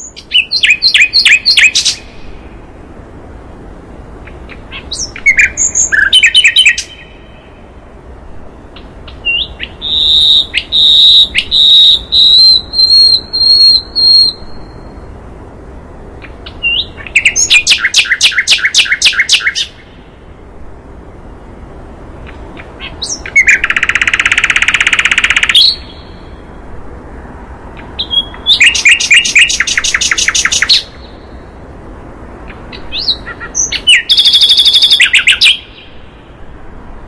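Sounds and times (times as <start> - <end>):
recorded songbird song: 0.0 - 37.0.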